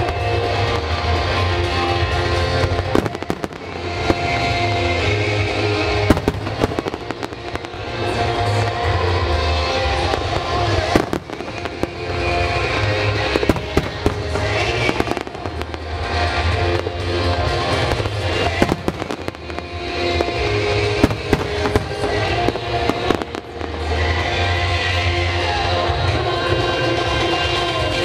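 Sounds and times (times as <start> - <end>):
fireworks bangs and pops: 0.0 - 28.0
music with deep bass: 0.0 - 28.0.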